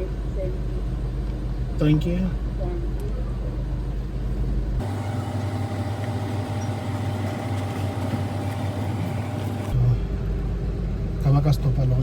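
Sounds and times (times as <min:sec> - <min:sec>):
car engine hum from inside: 0:00.0 - 0:12.0.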